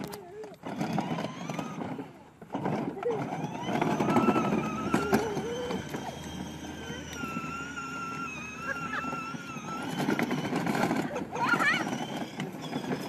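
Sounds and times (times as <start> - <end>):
toy car motor whining: 0.0 - 13.0.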